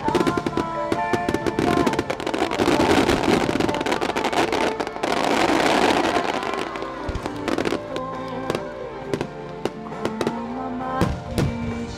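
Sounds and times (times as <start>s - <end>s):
fireworks crackling and popping: 0.0s - 11.9s.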